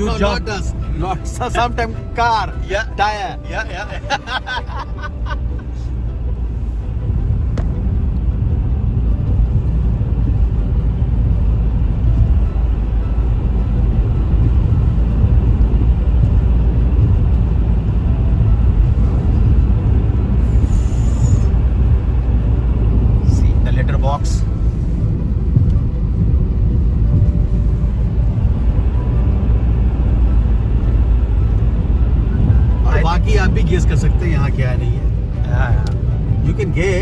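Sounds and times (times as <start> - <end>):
car tyres and engine rumbling: 0.0 - 37.0.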